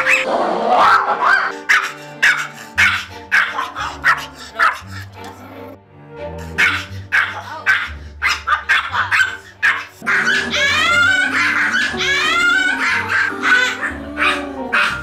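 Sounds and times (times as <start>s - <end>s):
background music: 0.0s - 15.0s
small dog barking angrily: 0.8s - 4.9s, 6.6s - 15.0s.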